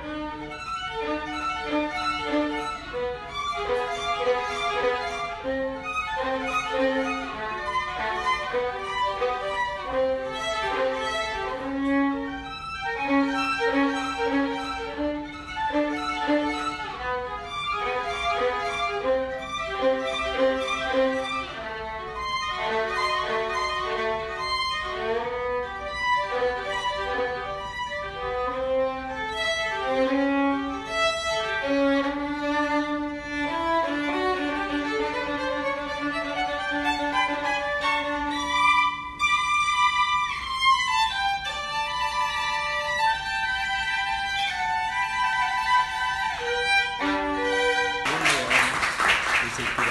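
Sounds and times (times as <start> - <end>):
instrumental music melody: 0.0 - 48.3.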